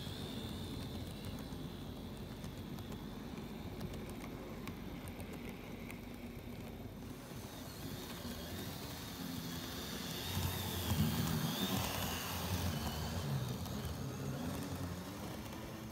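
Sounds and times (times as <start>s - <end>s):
faint high whine: 0.0s - 15.9s
model train humming and rumbling: 0.0s - 15.9s.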